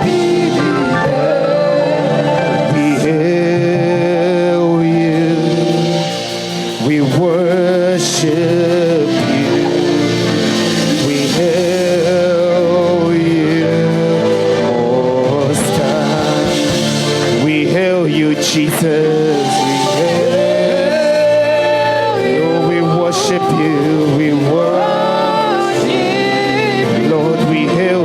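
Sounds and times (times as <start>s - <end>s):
gospel choir and band: 0.0s - 28.0s.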